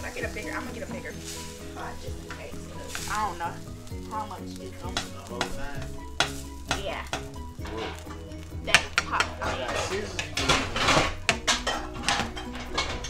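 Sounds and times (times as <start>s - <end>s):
background music: 0.0s - 13.0s
food sizzling in a pot: 0.0s - 13.0s
utensil scraping a pot: 0.0s - 13.0s.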